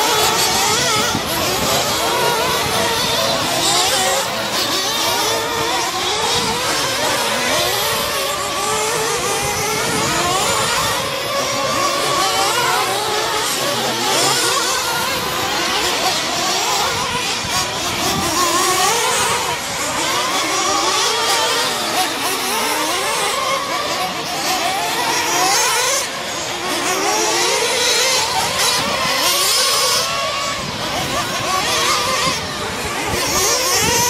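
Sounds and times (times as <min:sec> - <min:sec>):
rc truck motors whining: 0:00.0 - 0:34.0.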